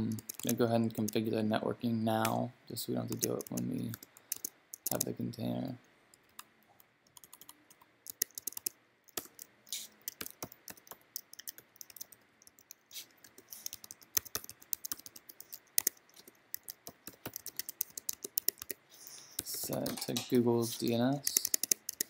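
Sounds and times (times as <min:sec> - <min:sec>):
computer keyboard typing: 0:00.0 - 0:01.2, 0:03.0 - 0:05.2, 0:07.1 - 0:20.3, 0:20.9 - 0:22.0.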